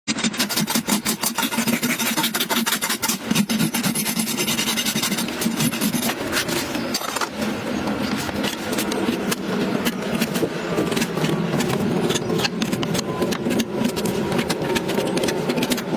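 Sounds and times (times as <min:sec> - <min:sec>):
rasping on horse hoof: 0:00.1 - 0:15.9.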